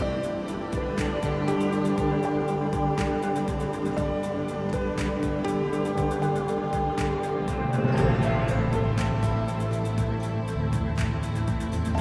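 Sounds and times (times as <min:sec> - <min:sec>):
background music with sustained tones: 0:00.0 - 0:12.0
steady tapping beat: 0:00.0 - 0:12.0.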